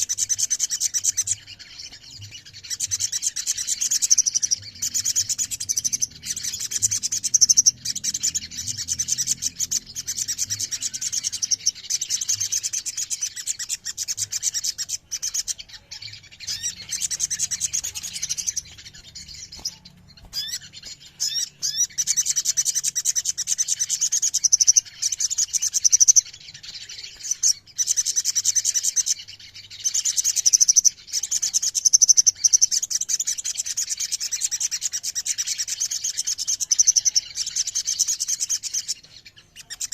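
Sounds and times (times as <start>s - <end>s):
bird singing rolling trills: 0.0s - 39.9s.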